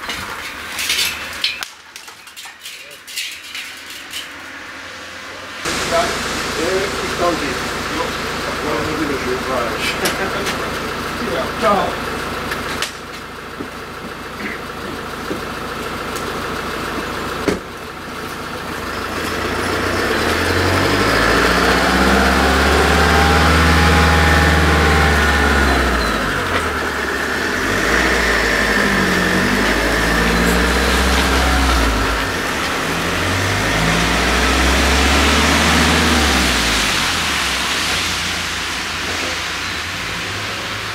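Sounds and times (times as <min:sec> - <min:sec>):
suv engine driving off: 0:03.5 - 0:40.9.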